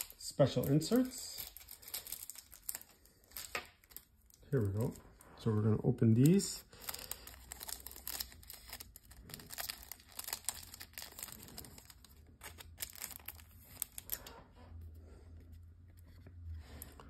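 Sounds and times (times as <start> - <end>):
plastic wrapper crinkling: 0.0 - 5.2, 6.1 - 14.5.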